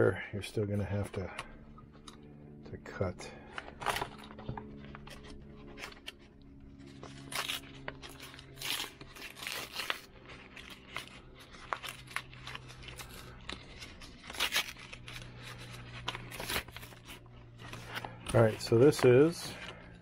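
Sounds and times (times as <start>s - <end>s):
faint low hum: 0.0s - 20.0s
paper packaging tearing and crinkling: 3.4s - 19.9s.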